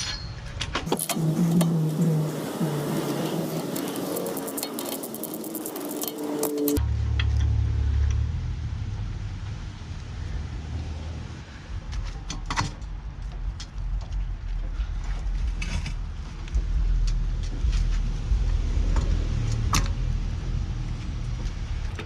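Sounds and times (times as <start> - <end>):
car rumbling on the move: 0.8 - 12.2, 15.1 - 22.0.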